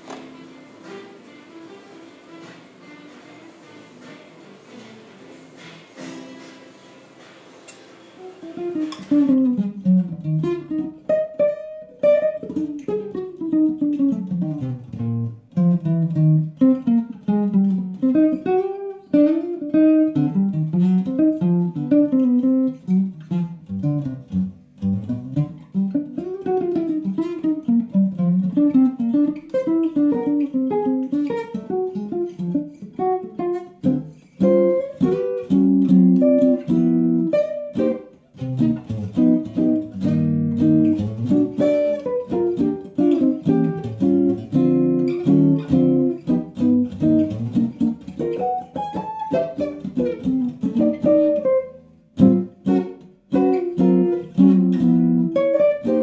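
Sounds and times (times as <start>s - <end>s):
jazz guitar playing: 0.0s - 56.0s.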